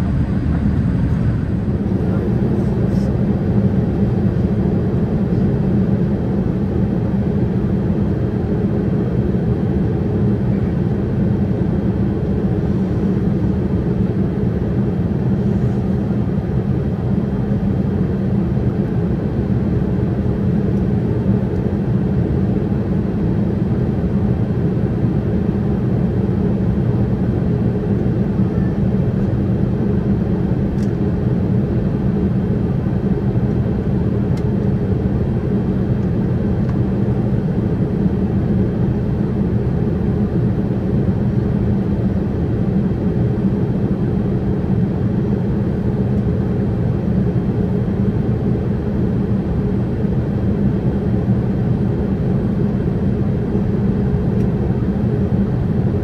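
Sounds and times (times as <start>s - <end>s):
airplane cabin engine rush: 0.0s - 56.0s.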